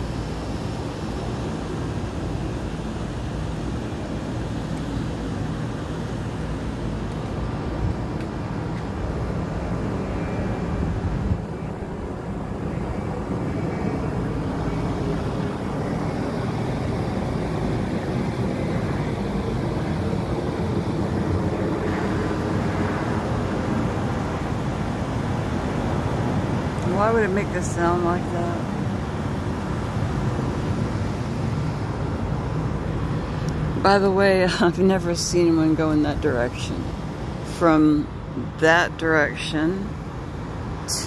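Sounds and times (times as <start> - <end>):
airplane drone: 0.0 - 41.0.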